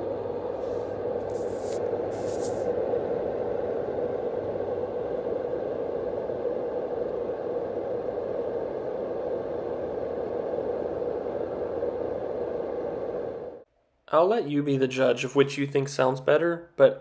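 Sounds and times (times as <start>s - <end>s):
white noise machine whooshing: 0.0s - 13.7s.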